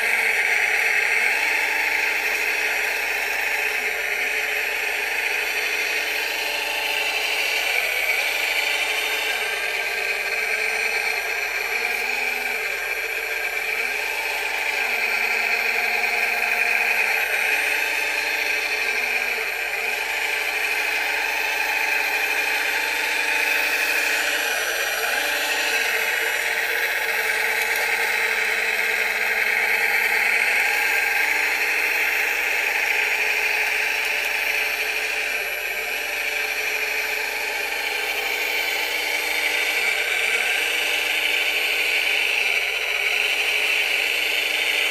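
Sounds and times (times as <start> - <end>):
toy loader motors whining: 0.0 - 44.9.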